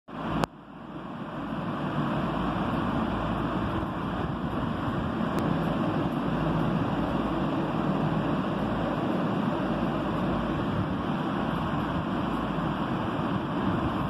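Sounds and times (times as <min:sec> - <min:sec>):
rumbling hiss: 0:00.1 - 0:14.0.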